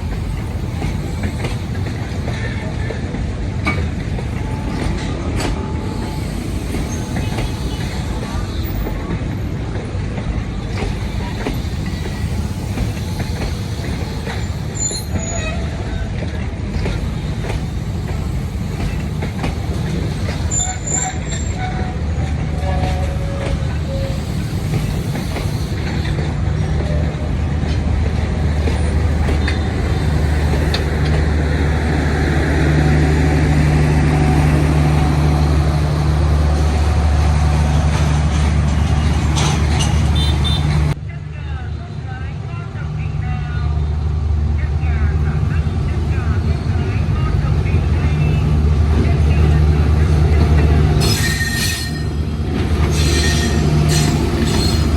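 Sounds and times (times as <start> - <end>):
diesel locomotive engine hum: 0.0 - 54.9
train rumbling over rails: 0.0 - 54.9.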